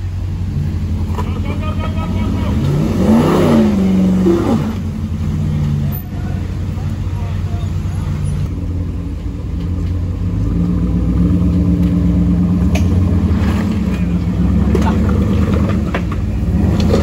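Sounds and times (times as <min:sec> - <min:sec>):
pickup truck engine at low revs: 0:00.0 - 0:17.0.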